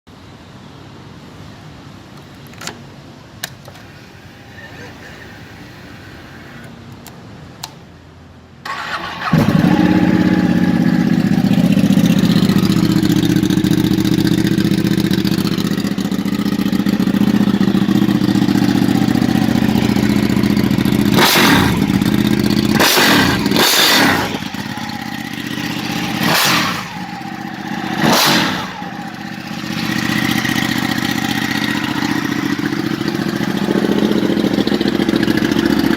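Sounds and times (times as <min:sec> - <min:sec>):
motorcycle engine starting and revving: 0:03.4 - 0:07.1, 0:08.6 - 0:35.9.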